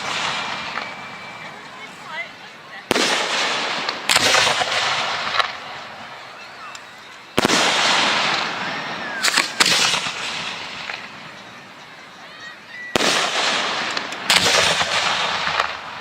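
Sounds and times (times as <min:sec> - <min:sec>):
fireworks bangs: 0:00.0 - 0:12.0, 0:12.8 - 0:16.0
fireworks crackling hiss: 0:00.0 - 0:12.1, 0:12.7 - 0:16.0.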